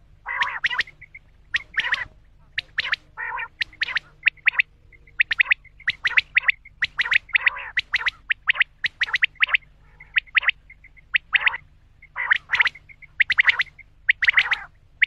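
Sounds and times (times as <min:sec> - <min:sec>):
quail calling: 0:00.0 - 0:15.0
harsh rasping bird call: 0:00.2 - 0:14.8.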